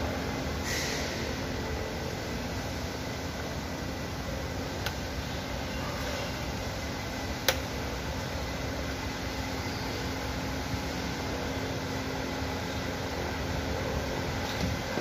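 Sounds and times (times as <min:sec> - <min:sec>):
ventilation fan hum: 0:00.0 - 0:15.0.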